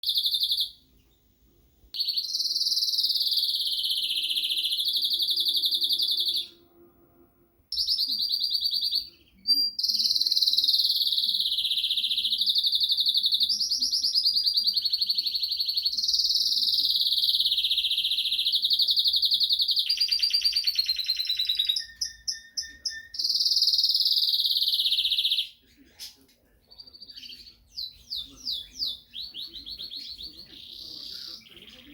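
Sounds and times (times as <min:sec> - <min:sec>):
canary singing trilled song: 0:00.0 - 0:01.2, 0:02.0 - 0:06.8, 0:07.7 - 0:31.9
bird chirps: 0:00.0 - 0:01.3, 0:02.0 - 0:06.8, 0:07.7 - 0:31.9.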